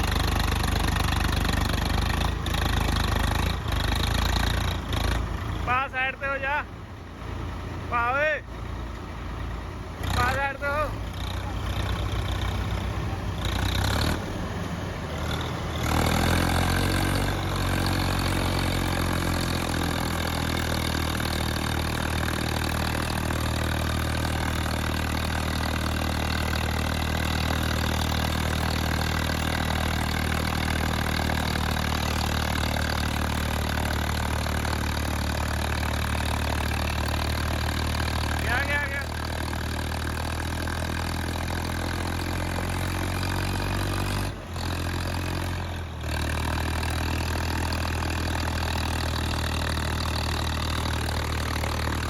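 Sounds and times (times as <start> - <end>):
diesel tractor engine under load: 0.0 - 52.0.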